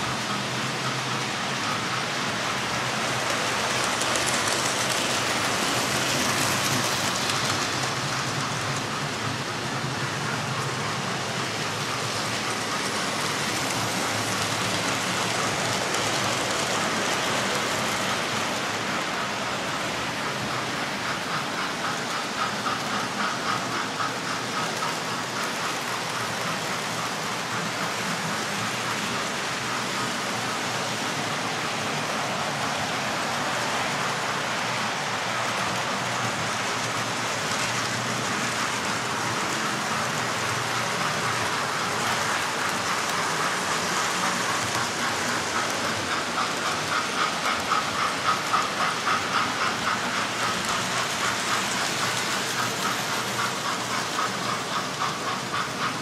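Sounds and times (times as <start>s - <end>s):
model trains whirring and rattling: 0.0s - 56.0s
wheels clicking over rail joints: 0.0s - 56.0s.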